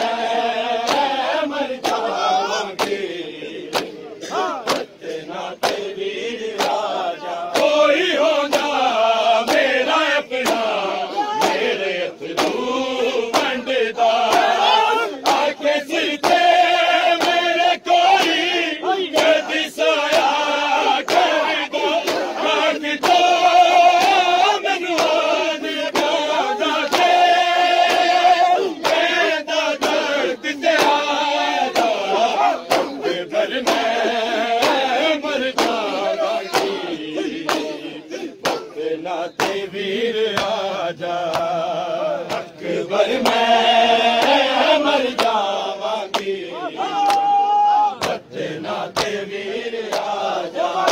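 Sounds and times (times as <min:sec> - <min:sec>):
hands slapping chests: 0:00.0 - 0:39.7, 0:40.3 - 0:41.6, 0:42.2 - 0:46.4, 0:47.0 - 0:50.9
men chanting: 0:00.0 - 0:50.9.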